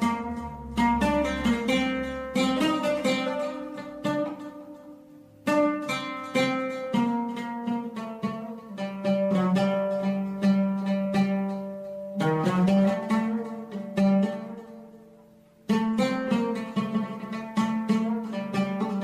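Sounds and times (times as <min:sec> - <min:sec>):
plucked string instrument music: 0:00.0 - 0:19.0.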